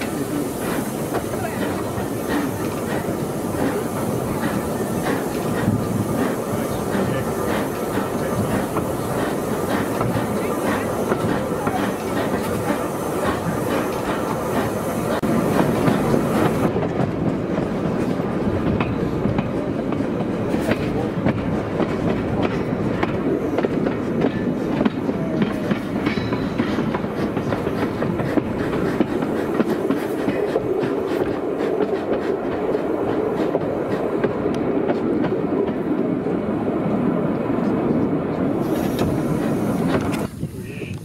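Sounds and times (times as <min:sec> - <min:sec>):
train wheels clattering over rails: 0:00.0 - 0:36.4.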